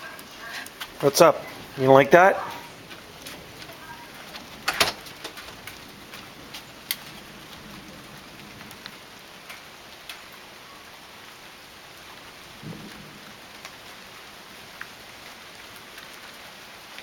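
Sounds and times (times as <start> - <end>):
light rain falling: 0.0 - 17.0
raindrops ticking: 0.0 - 17.0.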